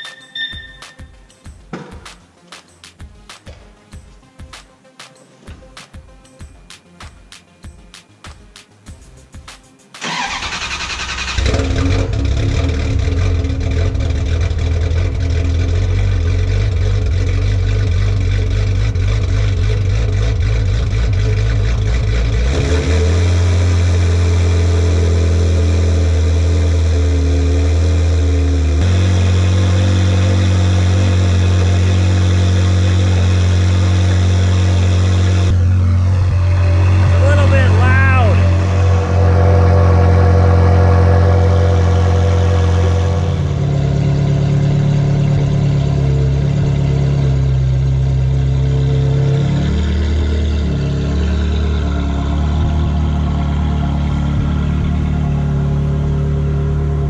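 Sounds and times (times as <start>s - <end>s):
car engine starting and idling: 9.9s - 57.0s.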